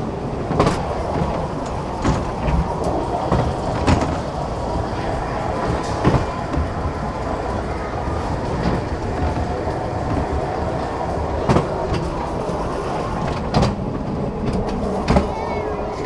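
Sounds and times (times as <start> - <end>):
train car rumbling on track: 0.0 - 16.0.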